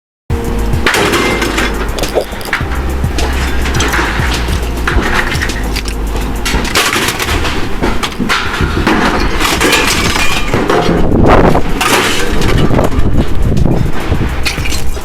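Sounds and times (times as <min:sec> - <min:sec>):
scrap metal clattering: 0:00.8 - 0:15.0.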